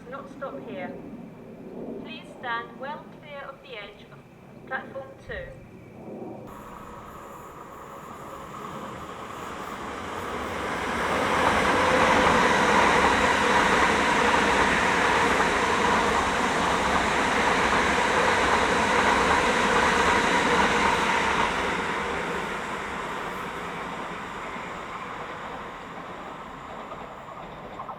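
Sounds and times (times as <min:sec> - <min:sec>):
passenger train passing: 0:00.0 - 0:27.9.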